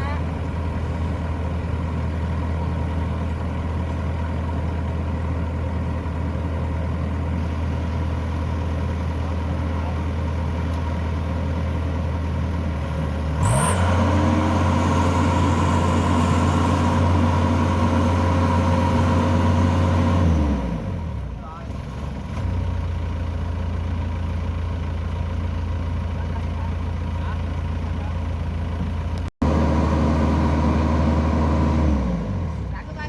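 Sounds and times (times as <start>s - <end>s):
combine harvester diesel engine: 0.0s - 33.0s.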